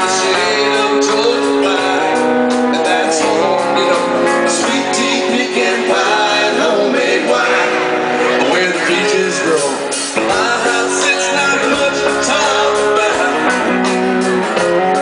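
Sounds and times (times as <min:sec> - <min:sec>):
live country band playing: 0:00.0 - 0:15.0.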